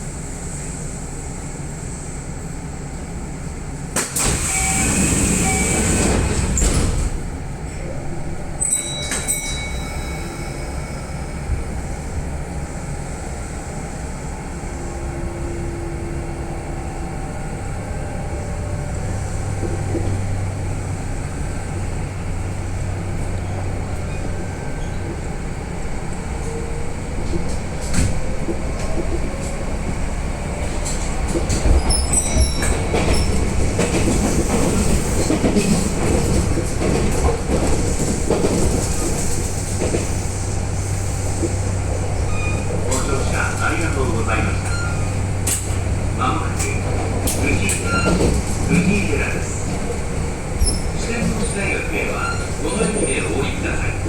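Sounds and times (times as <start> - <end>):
train running: 0.0 - 54.0
train doors sliding shut: 3.8 - 14.3, 16.1 - 54.0.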